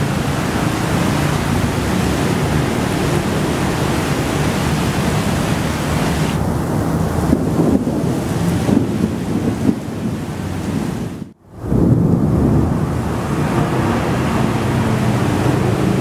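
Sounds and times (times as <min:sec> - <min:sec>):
rain: 0:00.0 - 0:16.0
thunder rumble: 0:00.0 - 0:16.0
wind buffeting microphone: 0:00.0 - 0:16.0.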